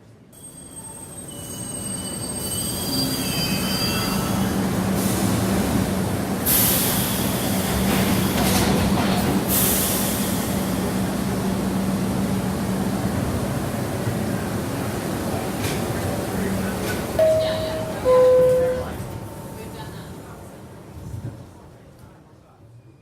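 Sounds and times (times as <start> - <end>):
subway train rumbling on rails: 0.0 - 23.0.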